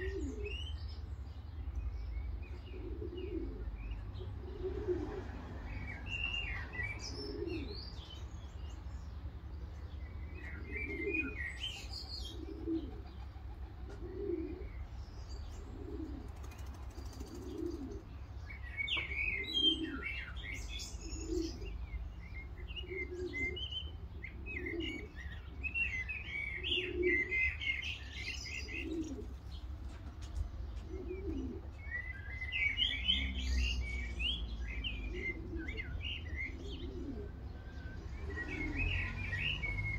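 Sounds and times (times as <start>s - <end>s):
pigeons cooing: 0.0s - 0.9s, 1.8s - 39.9s
small birds chirping: 0.0s - 39.9s.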